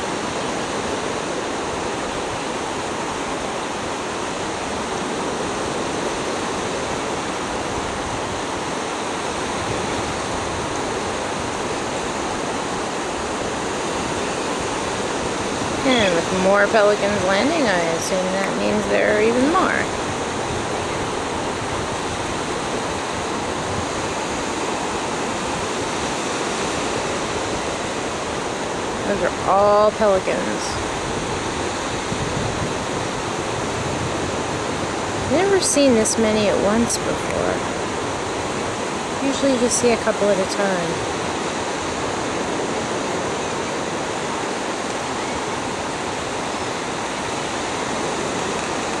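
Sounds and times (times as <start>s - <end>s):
ocean surf breaking on beach: 0.0s - 49.0s.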